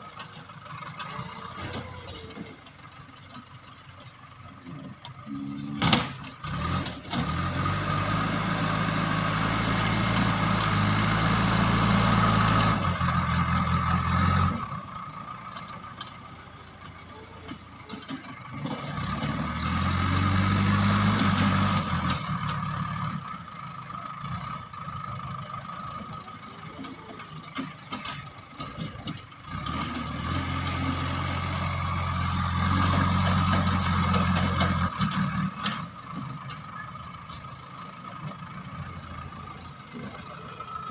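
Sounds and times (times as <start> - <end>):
backhoe diesel engine working: 0.0 - 40.9.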